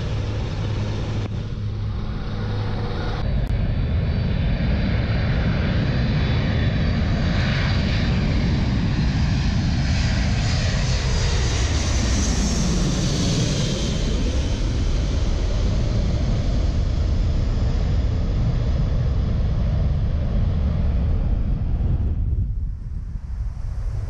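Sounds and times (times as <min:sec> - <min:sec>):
jet aircraft passing low overhead: 0:00.0 - 0:24.0.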